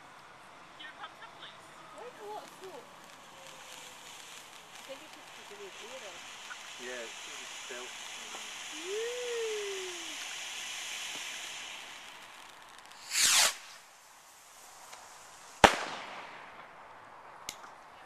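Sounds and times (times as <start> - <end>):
firework hiss: 0.0 - 17.9
firework bang: 2.0 - 17.4
firework launching whoosh: 2.0 - 17.6.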